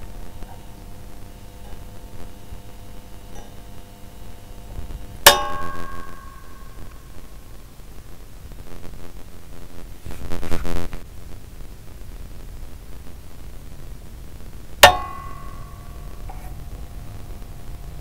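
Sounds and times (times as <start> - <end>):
lamp buzzing hum: 0.0 - 18.0.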